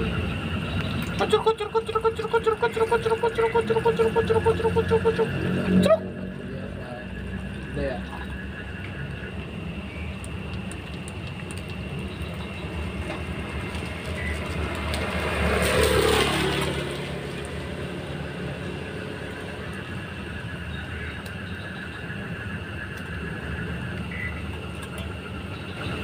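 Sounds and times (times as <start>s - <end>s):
vehicle passing on wet road: 0.0s - 21.4s
rain hiss: 0.0s - 26.0s.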